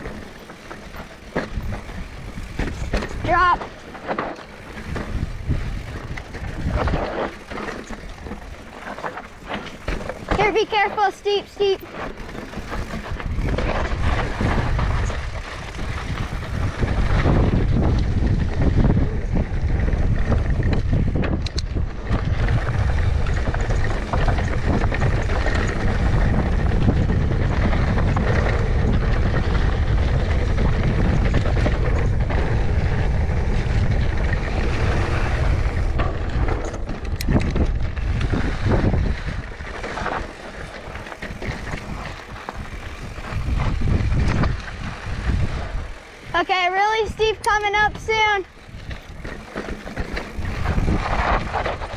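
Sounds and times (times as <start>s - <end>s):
bike knocks and rattles: 0.0s - 51.9s
tyres rumbling over dirt: 0.0s - 51.9s
wind buffeting microphone: 0.0s - 51.9s.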